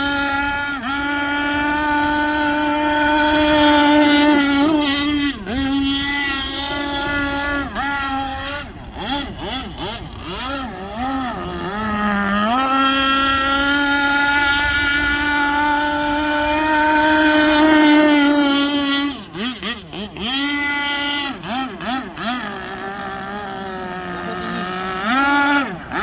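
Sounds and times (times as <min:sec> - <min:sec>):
speedboat engine at high revs: 0:00.0 - 0:26.0.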